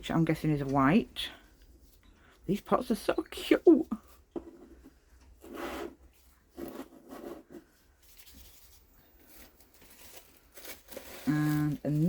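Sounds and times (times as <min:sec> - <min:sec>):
plastic pots rubbing and scraping: 0:00.2 - 0:12.0.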